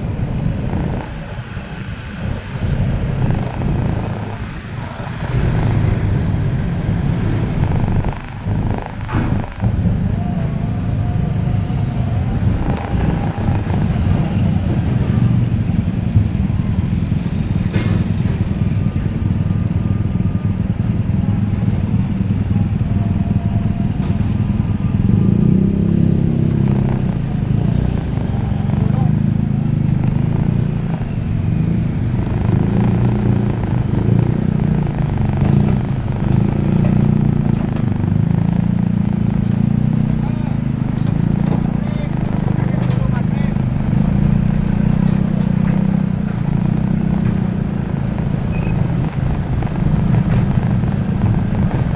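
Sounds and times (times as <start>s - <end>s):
motorcycle engines: 0.0s - 51.9s
vehicle engines rumbling: 0.0s - 51.9s.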